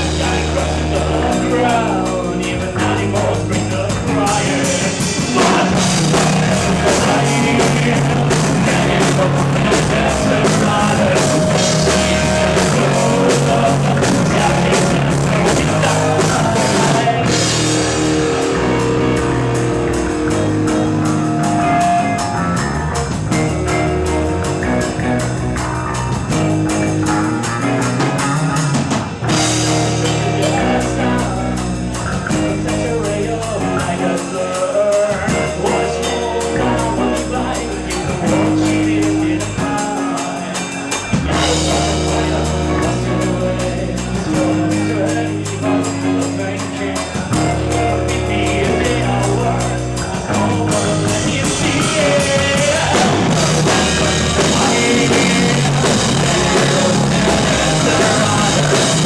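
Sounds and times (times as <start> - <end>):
person singing: 0.0 - 25.4, 26.0 - 59.0
bass guitar: 0.0 - 59.0
drum kit: 0.0 - 59.0
electric guitars: 0.0 - 59.0.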